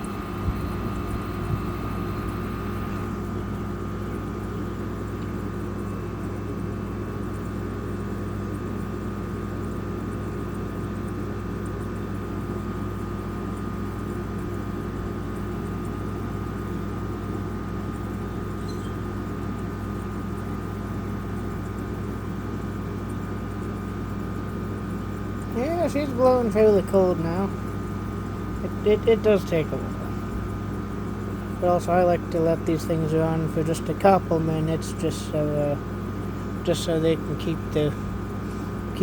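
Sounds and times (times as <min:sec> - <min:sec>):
air conditioner hum: 0:00.0 - 0:39.0.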